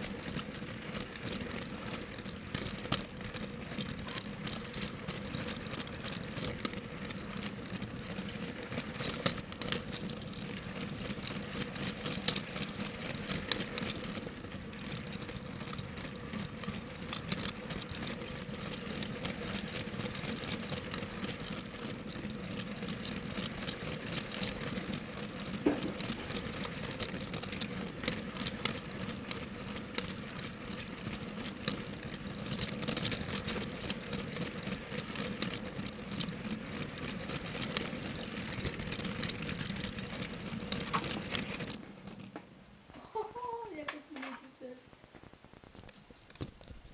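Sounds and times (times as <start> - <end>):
toy train wheels rattling: 0.0 - 42.3.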